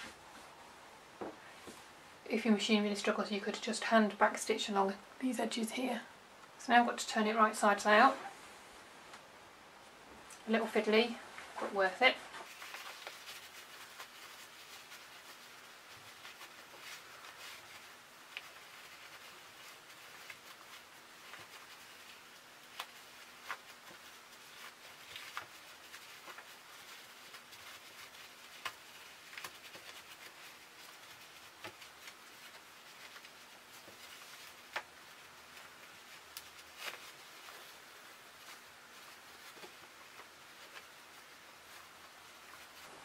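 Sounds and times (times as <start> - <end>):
fabric rustling: 0.0 - 2.0, 9.9 - 43.0.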